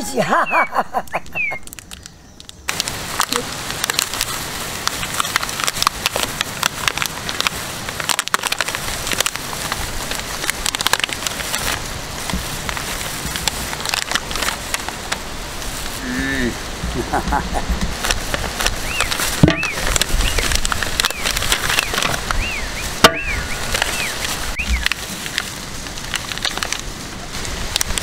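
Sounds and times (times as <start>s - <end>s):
wrappers crinkling and tearing: 1.6s - 28.0s.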